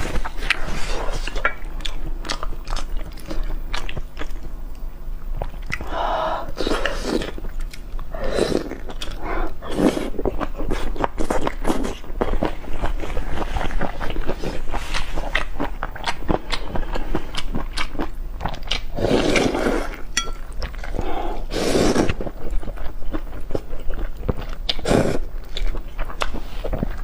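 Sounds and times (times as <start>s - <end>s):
wet chewing and crunching: 0.0s - 5.9s, 6.8s - 21.2s, 21.9s - 27.0s.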